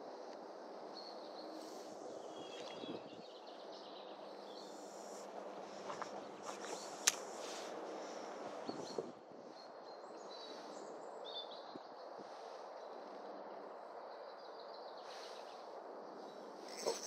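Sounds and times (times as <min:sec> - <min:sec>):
faint bird chirps: 0:00.8 - 0:17.0.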